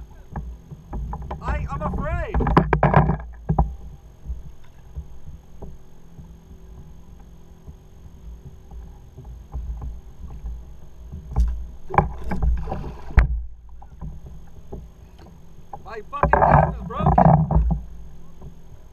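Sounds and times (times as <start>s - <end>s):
small knocks: 0.0s - 18.9s
water slapping against kayak hull: 0.0s - 18.9s.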